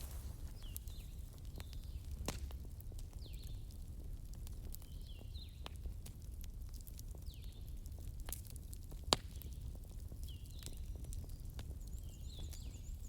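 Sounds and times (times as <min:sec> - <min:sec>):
burning logs crackling: 0:00.0 - 0:13.0
low rumble of fire: 0:00.0 - 0:13.0.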